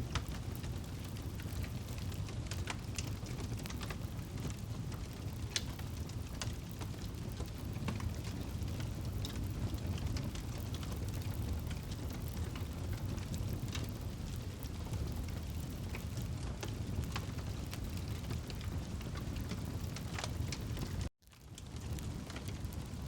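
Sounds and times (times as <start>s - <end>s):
campfire flames rumbling: 0.0s - 23.0s
wood crackling and popping: 0.0s - 23.0s.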